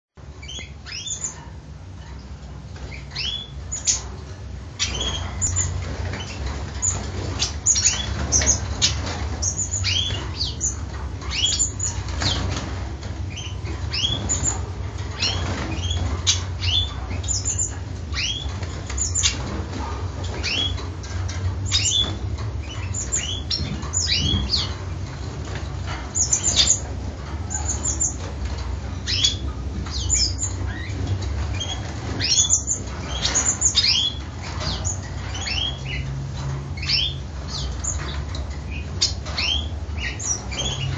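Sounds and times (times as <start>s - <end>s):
birds chirping: 0.2s - 40.9s
steady low hum: 0.2s - 40.9s.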